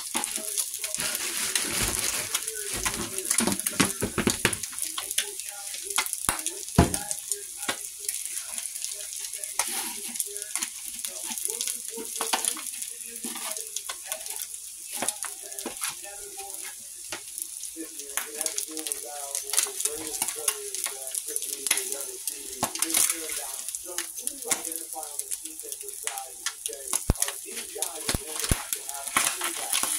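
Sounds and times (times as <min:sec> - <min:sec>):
eggs sizzling in grease: 0:00.0 - 0:29.9
grease popping: 0:00.0 - 0:29.9.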